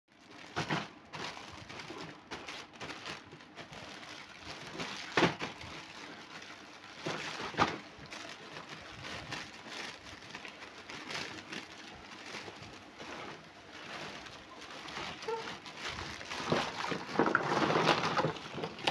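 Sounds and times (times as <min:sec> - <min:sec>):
plastic bag crinkling: 0:00.1 - 0:18.9
sharp plastic crackles: 0:00.1 - 0:18.9.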